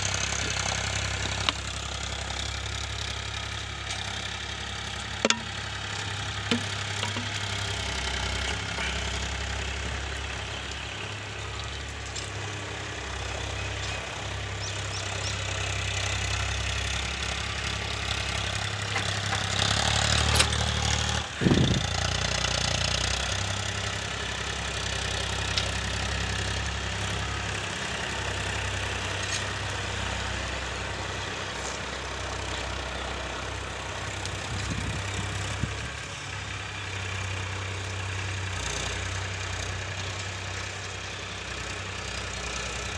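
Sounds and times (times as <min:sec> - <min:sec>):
tractor diesel engine: 0:00.0 - 0:42.9.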